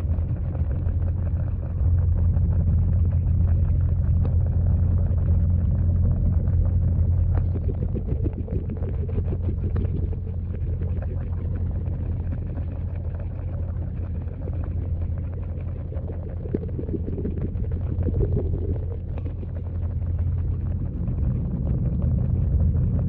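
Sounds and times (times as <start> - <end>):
waterfall heard underwater: 0.0 - 23.0.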